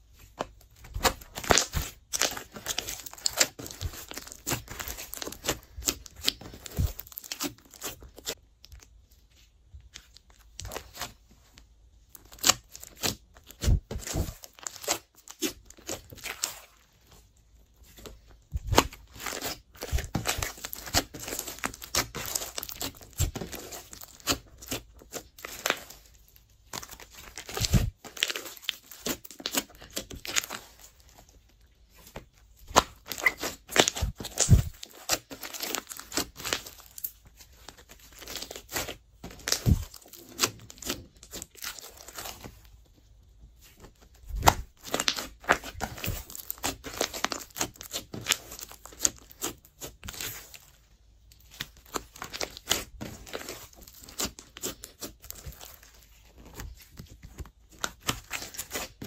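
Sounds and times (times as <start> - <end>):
slime crackling and squelching: 0.1 - 11.3, 12.1 - 59.0.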